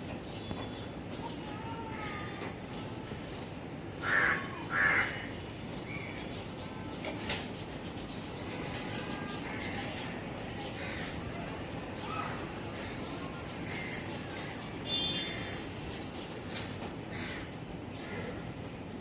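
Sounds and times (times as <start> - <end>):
birds calling: 0.0 - 18.6
steady background hiss: 0.0 - 19.0.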